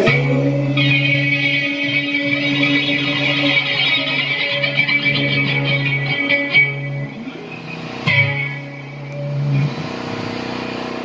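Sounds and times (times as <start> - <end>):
amplified guitar chords: 0.0 - 11.0.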